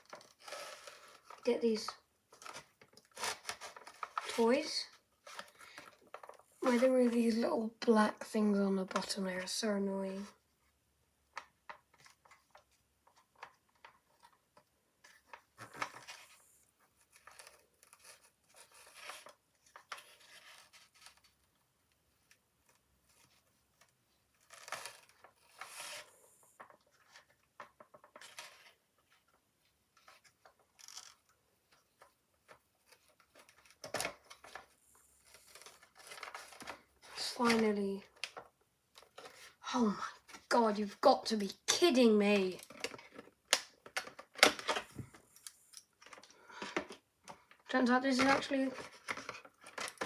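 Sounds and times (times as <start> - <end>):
cardboard and plastic rustling: 0.0 - 10.4, 11.5 - 50.0.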